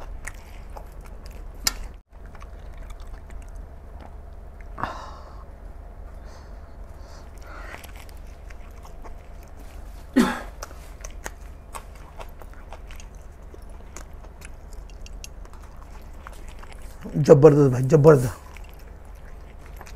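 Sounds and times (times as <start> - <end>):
man chewing with wet mouth sounds: 0.0 - 19.9.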